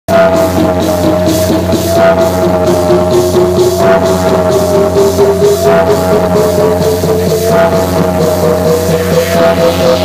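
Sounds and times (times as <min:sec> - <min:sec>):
held synth tone: 0:00.1 - 0:10.0
low melody line: 0:00.1 - 0:10.0
steady bass: 0:00.1 - 0:10.0
steady drum beat: 0:00.1 - 0:10.0.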